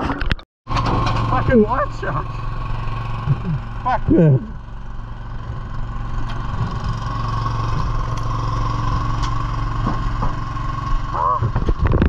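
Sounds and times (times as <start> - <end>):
boat engine humming: 0.7 - 12.0.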